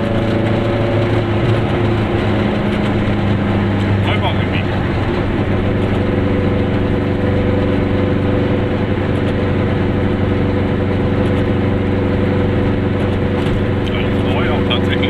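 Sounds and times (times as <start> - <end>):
road noise: 0.0 - 15.0
two-stroke engine cruising: 0.0 - 15.0.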